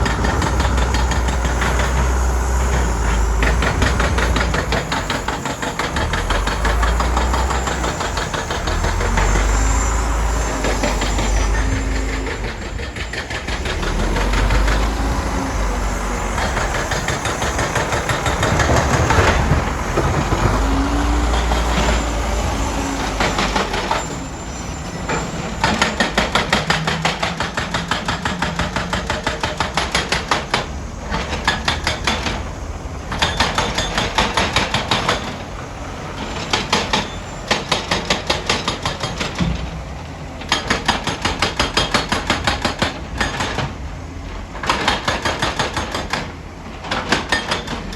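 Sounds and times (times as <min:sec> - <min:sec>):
diesel engine rumble: 0:00.0 - 0:47.9.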